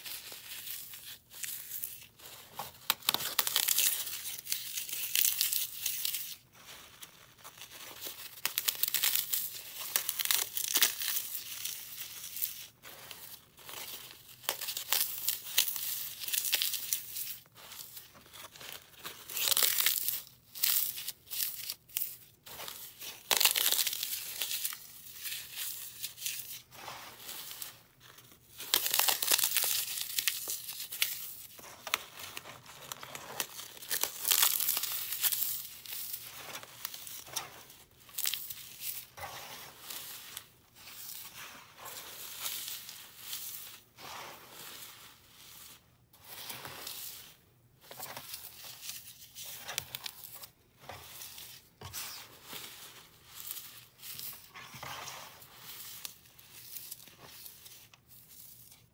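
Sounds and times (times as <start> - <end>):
hands crushing dry floral foam: 0.0 - 58.9.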